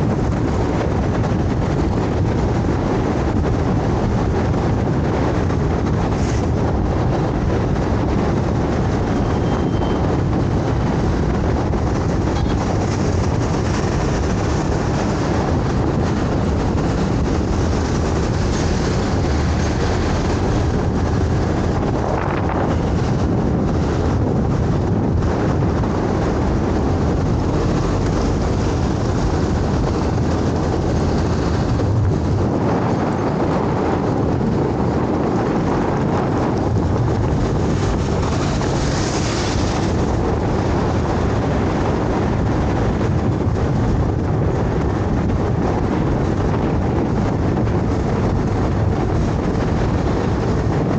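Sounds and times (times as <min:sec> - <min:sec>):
scooter engine and tyre noise: 0:00.0 - 0:50.9
wind rush on microphone: 0:00.0 - 0:50.9.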